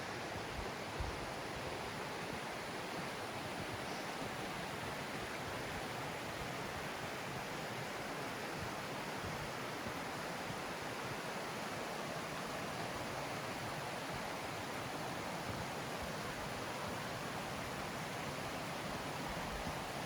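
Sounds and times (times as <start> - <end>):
mountain stream rushing: 0.0 - 20.0.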